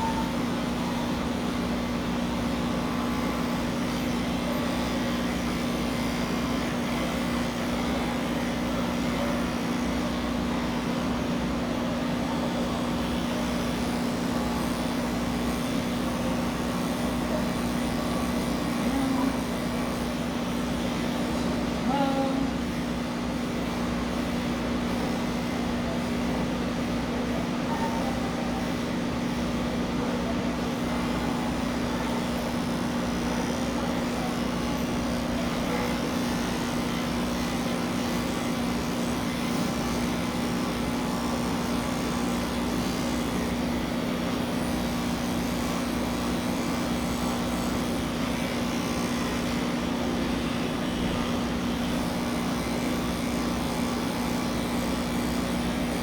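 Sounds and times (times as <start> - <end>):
electric hair clippers buzzing: 0.0 - 27.0, 27.9 - 56.0.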